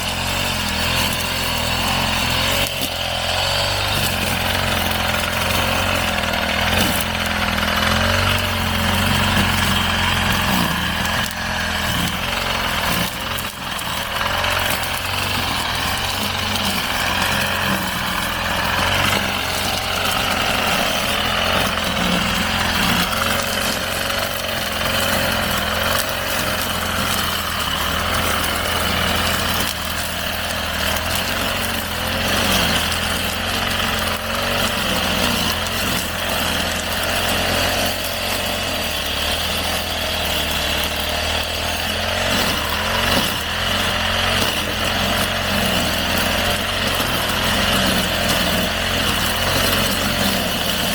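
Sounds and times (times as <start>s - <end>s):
brush cutter engine whining: 0.0s - 50.9s.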